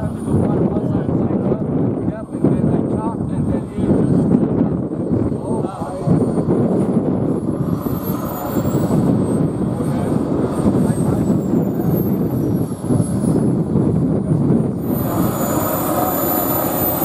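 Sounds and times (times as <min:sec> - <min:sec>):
jet turbine exhaust rushing: 0:00.0 - 0:17.0
turbine whine: 0:00.0 - 0:17.0.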